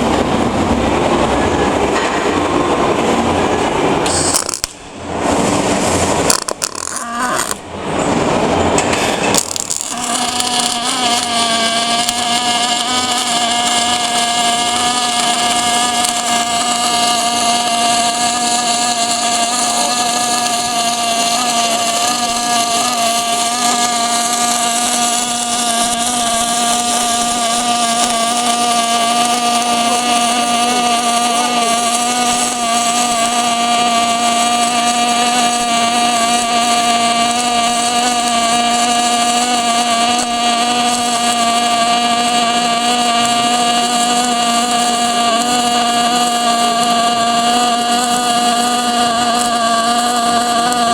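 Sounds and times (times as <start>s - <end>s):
welding arc humming and hissing: 0.0s - 50.9s.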